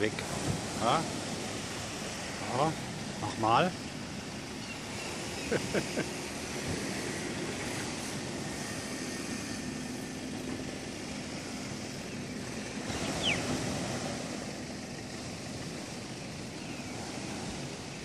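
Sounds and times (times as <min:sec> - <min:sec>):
surf: 0:00.0 - 0:09.5, 0:12.3 - 0:18.0
wind: 0:00.0 - 0:18.0.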